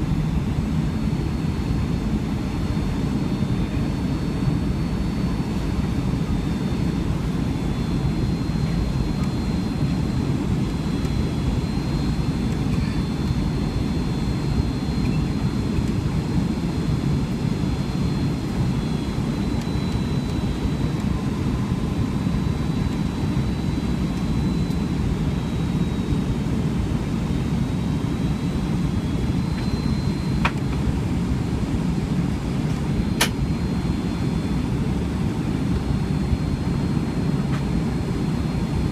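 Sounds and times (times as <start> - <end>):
faint high whine: 0.0 - 38.9
jet cabin engine roar: 0.0 - 38.9.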